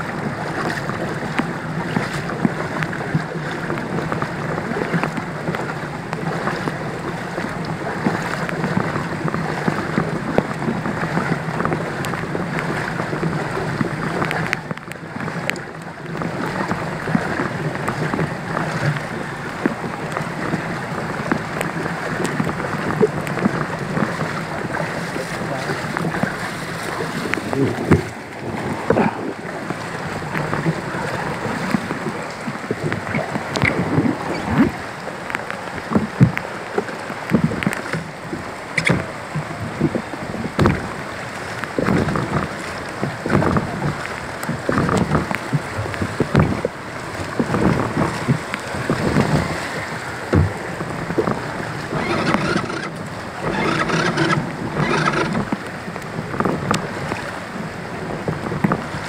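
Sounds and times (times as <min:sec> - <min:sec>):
heavy rain pouring: 0:00.0 - 0:58.9
floodwater sloshing around wading feet: 0:00.0 - 0:59.0.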